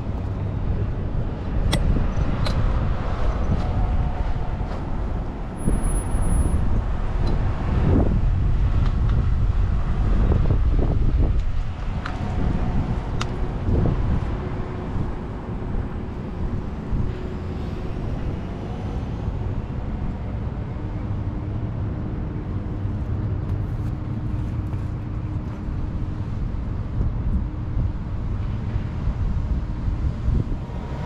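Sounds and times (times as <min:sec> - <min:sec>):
city street traffic: 0:00.0 - 0:31.0
wind rumbling on microphone: 0:00.0 - 0:31.0.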